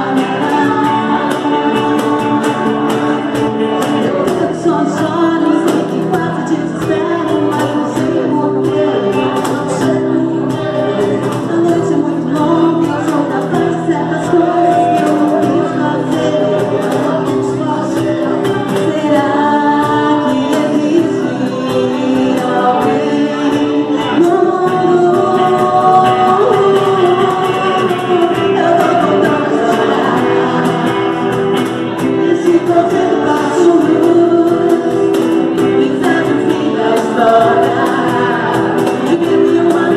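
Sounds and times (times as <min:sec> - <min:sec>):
electric guitar: 0:00.0 - 0:39.9
keyboard: 0:00.0 - 0:39.9
woman and man singing: 0:00.0 - 0:39.9.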